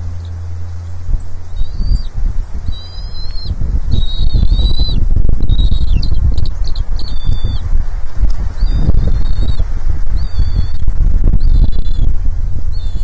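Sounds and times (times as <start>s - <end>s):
eagle nestlings calling: 0.0s - 13.0s
wind rumble on microphone: 0.0s - 13.0s.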